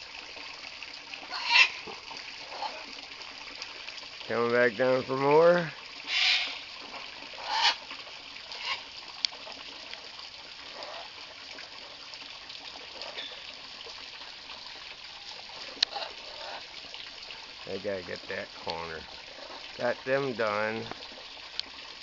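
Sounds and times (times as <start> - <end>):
hose water splashing into birdbath: 0.0 - 22.0.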